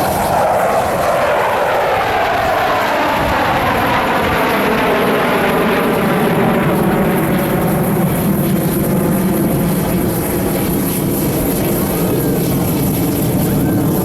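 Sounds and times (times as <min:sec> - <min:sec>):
fighter jets flying past: 0:00.0 - 0:14.0.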